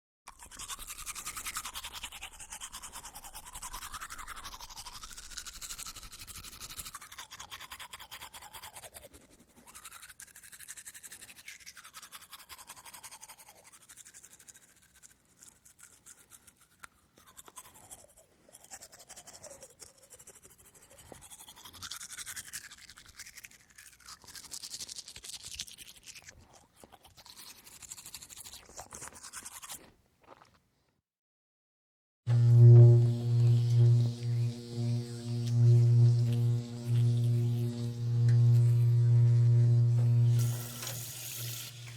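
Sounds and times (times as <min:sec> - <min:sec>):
toothbrush scrubbing teeth: 0:00.3 - 0:30.6, 0:32.4 - 0:41.9.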